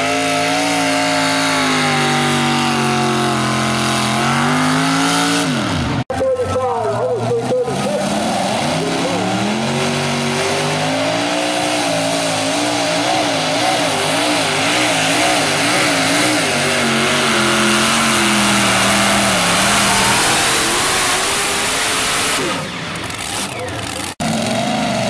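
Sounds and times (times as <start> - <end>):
tractor engines at full throttle: 0.0 - 25.0.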